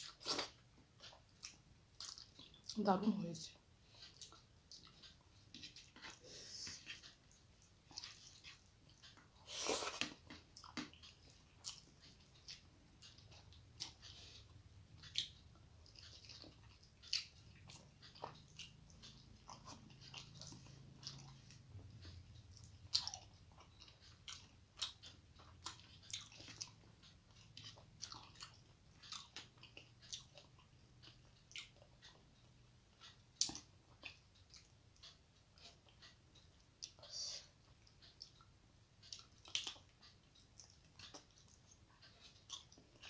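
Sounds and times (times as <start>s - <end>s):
wet chewing mouth clicks: 0.0s - 2.8s, 3.9s - 43.0s.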